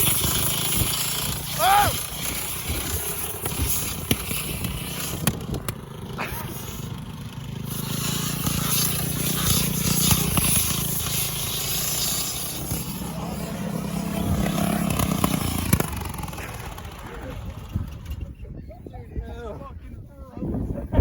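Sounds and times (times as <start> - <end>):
lawnmower engine sputtering: 0.0 - 18.5.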